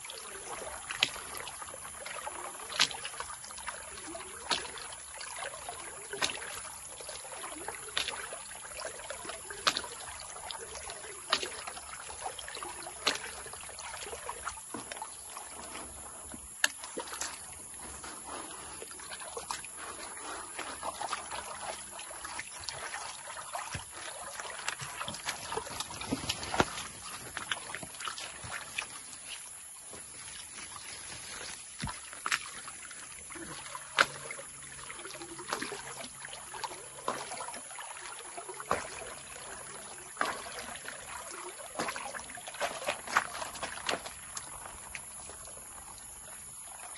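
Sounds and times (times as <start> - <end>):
sharp splashes: 0.0 - 45.5
water sloshing in a pan: 0.0 - 46.9.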